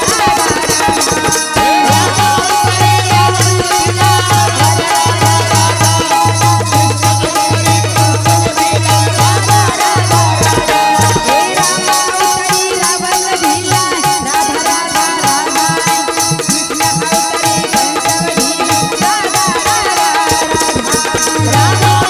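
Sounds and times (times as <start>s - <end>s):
girl singing into a microphone: 0.0s - 22.0s
hand percussion: 0.0s - 22.0s
held accompanying tones: 0.0s - 22.0s.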